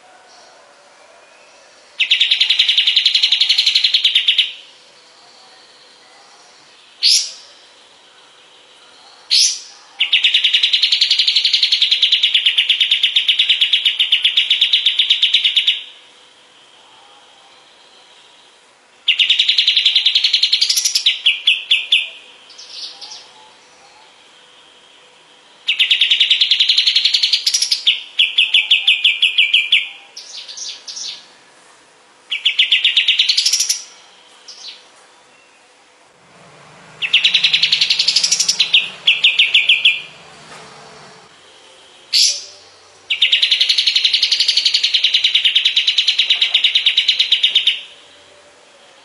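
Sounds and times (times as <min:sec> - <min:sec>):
bird singing rattling trills: 0:01.3 - 0:16.8, 0:17.5 - 0:31.3, 0:32.3 - 0:48.2.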